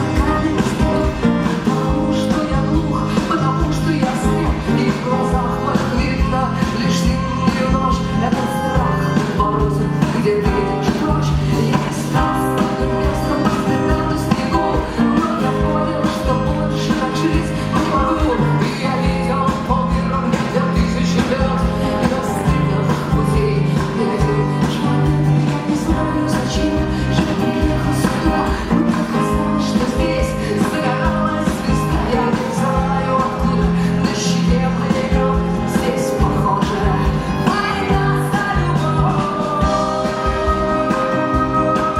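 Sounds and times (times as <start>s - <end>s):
live rock band: 0.0s - 41.9s
woman singing: 0.0s - 41.9s.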